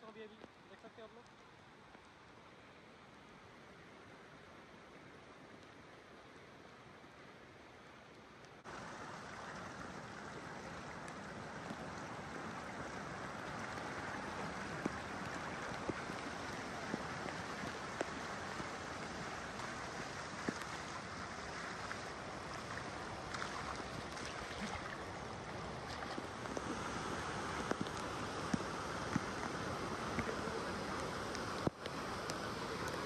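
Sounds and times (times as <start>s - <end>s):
rushing flood water: 0.0s - 33.0s.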